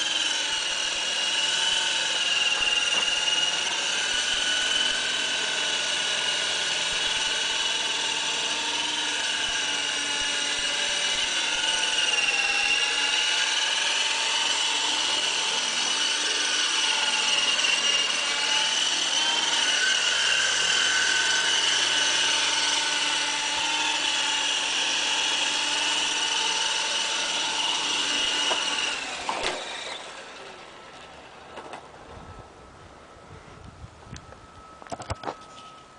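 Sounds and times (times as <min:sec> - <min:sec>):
model helicopter whine: 0:00.0 - 0:35.9.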